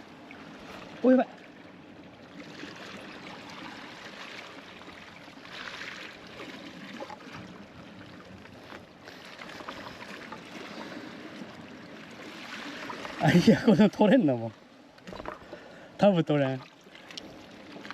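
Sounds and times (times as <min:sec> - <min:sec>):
sea water sloshing: 0:00.0 - 0:17.9.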